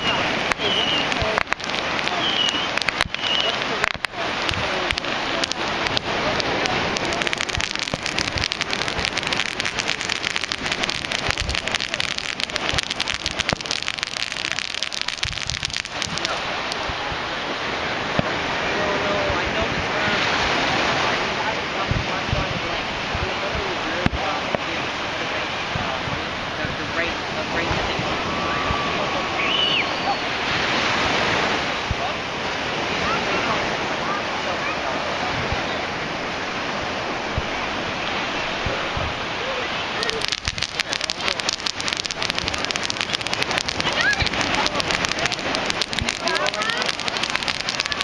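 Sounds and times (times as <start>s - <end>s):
fireworks crackling: 0.0s - 21.2s, 21.8s - 32.1s, 37.2s - 48.0s
wind noise: 0.0s - 48.0s.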